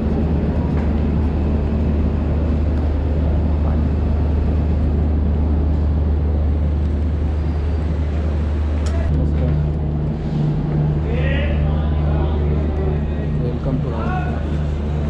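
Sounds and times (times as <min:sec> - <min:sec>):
train engine idling: 0:00.0 - 0:15.0.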